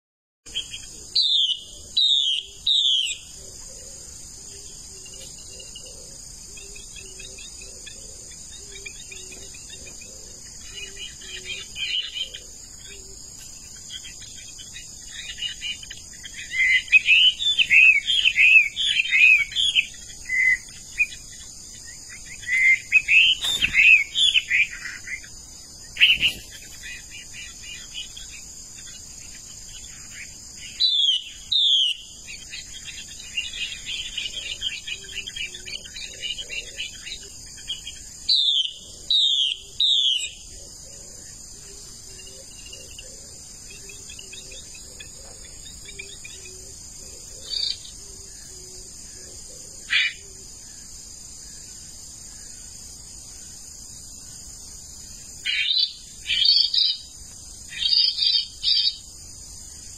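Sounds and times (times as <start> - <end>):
birds chirping: 0.5 - 59.9
high insect buzz: 0.5 - 59.9.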